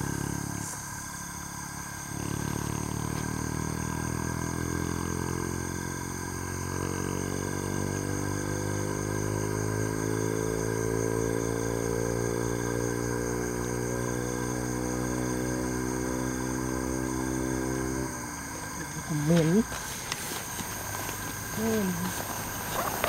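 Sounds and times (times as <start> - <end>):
motor engine running: 0.0 - 23.0.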